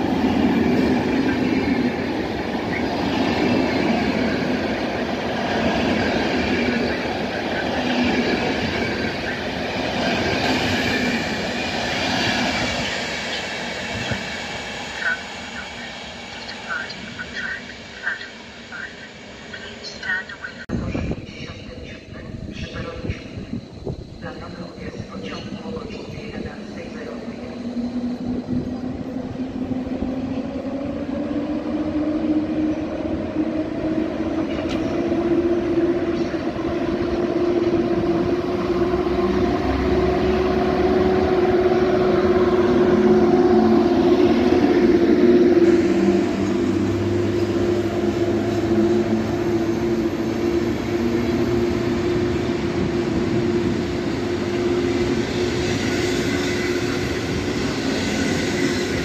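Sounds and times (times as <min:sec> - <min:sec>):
electric locomotive passing hum: 0:00.0 - 0:59.0.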